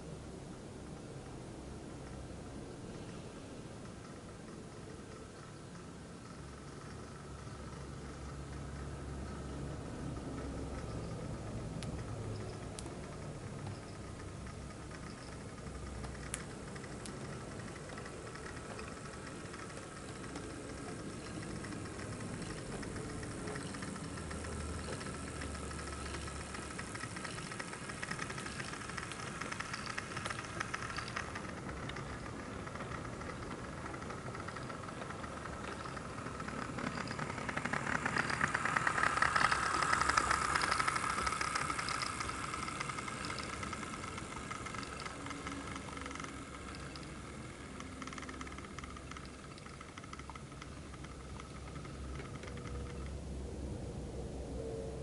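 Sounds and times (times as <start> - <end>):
model train engine hum: 0.0 - 55.0
wheels rattling on track: 0.8 - 53.3.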